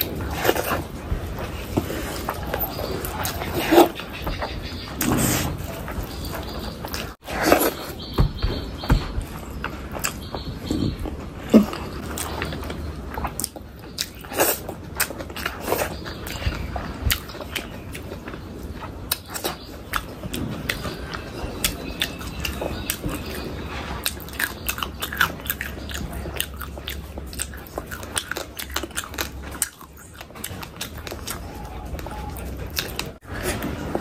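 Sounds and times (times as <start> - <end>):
mouth clicks and crunches: 0.0 - 8.2, 8.8 - 34.0
person chewing food: 0.0 - 34.0.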